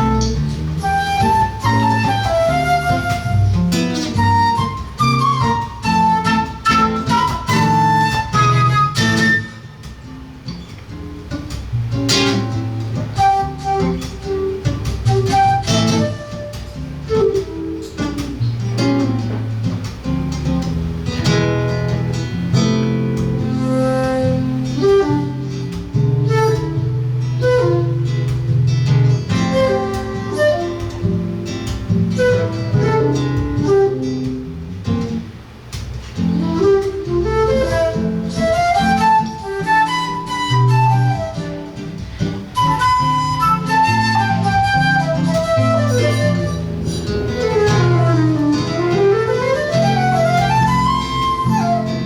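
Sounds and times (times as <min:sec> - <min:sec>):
flute melody: 0:00.0 - 0:35.3, 0:36.0 - 0:52.0
acoustic guitar playing: 0:00.0 - 0:52.0.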